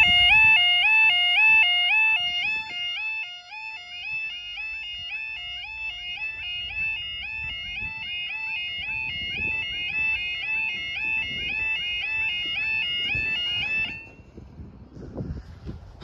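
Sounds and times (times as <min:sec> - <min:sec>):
two-tone crossing alarm warble: 0:00.0 - 0:14.5.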